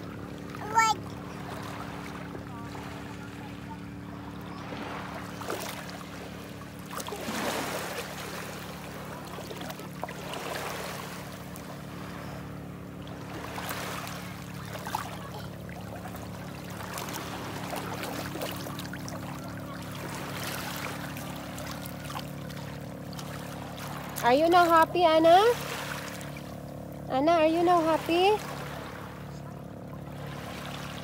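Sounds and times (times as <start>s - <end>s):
steady low hum: 0.0s - 31.0s
child wading splashes: 0.1s - 31.0s.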